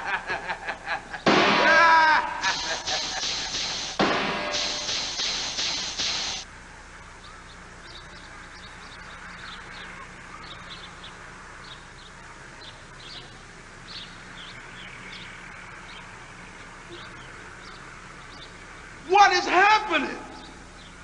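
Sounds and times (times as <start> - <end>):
small birds chirping: 2.5 - 4.0, 4.6 - 21.0.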